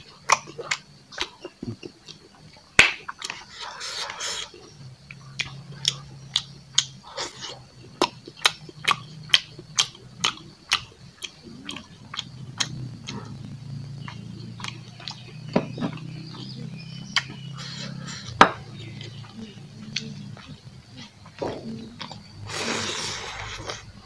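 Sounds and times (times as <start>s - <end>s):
wet chewing and lip-smacking: 0.0s - 22.5s
steady low hum: 0.0s - 24.0s.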